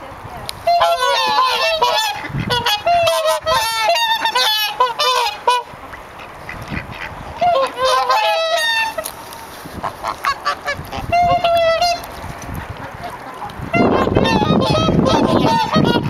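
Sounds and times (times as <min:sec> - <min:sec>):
swans honking: 0:00.0 - 0:16.0.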